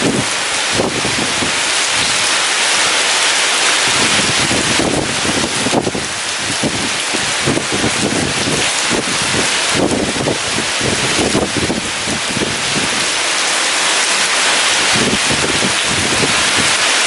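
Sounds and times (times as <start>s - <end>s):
heavy rain pouring: 0.0s - 17.0s
strong wind gusting: 0.0s - 17.0s.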